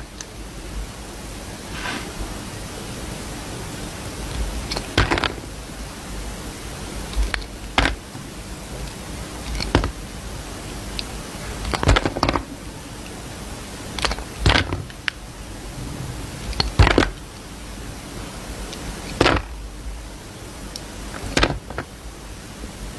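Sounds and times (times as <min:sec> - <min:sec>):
steady hiss: 0:00.0 - 0:22.9.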